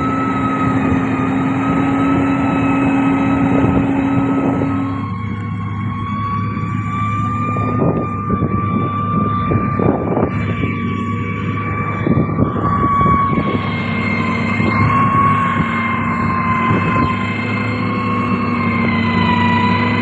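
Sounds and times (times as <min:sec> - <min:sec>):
diesel machinery engine drone: 0:00.0 - 0:20.0
machinery high whine: 0:00.0 - 0:20.0.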